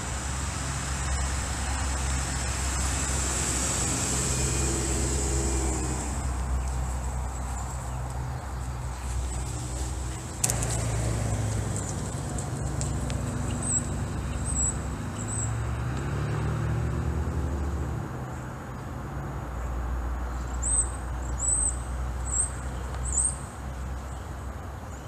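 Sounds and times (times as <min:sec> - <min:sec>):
low rumble of vehicle engine: 0:00.0 - 0:25.0.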